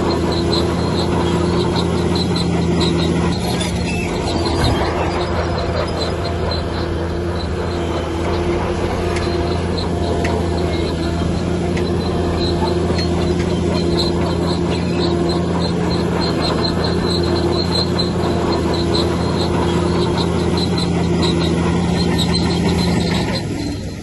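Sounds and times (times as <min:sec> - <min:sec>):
bulldozer diesel engine running: 0:00.0 - 0:24.0
short high-pitched squeaks: 0:00.0 - 0:24.0.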